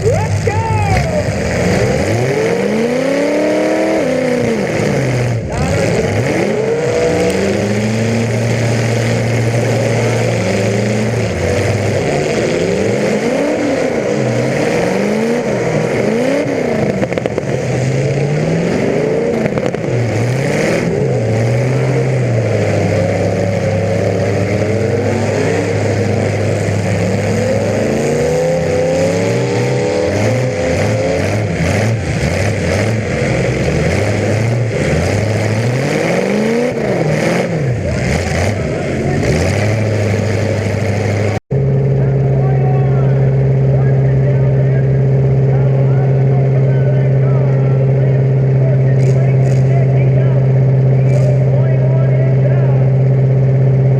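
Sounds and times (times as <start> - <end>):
car engines revving: 0.0 - 53.9.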